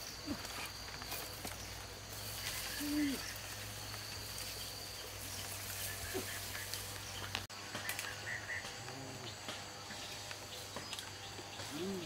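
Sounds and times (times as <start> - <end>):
high-pitched insect hum: 0.0 - 12.0.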